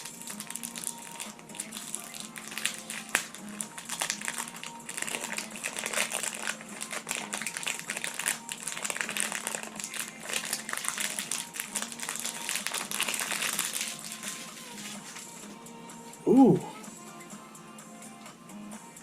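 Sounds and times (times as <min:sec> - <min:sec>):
packaging crinkling: 0:00.0 - 0:15.3.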